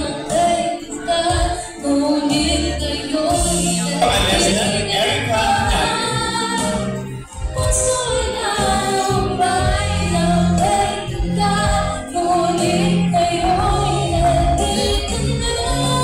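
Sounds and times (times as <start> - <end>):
song with sung melody: 0.0 - 16.0.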